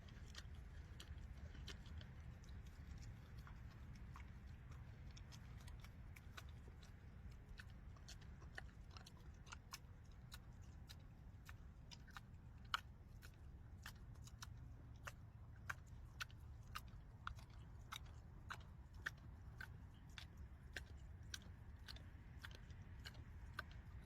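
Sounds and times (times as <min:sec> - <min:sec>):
animal chewing crunchily: 0:00.0 - 0:24.0
low steady rumble: 0:00.0 - 0:24.0.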